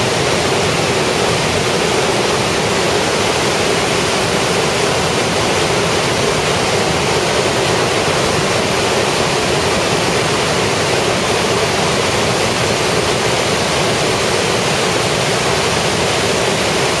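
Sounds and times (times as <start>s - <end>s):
river rushing through rapids: 0.0s - 17.0s.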